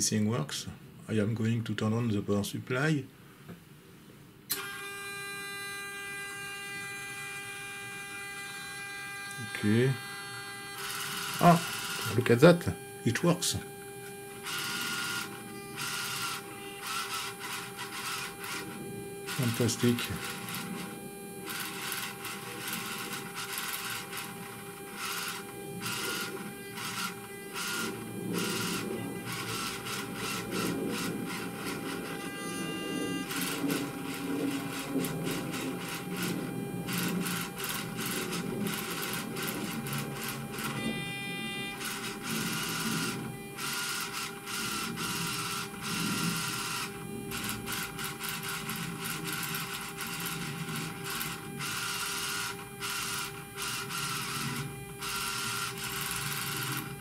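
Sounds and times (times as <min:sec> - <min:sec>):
steady electrical hum: 0:00.0 - 0:57.0
servo motors and gears whirring: 0:04.5 - 0:57.0.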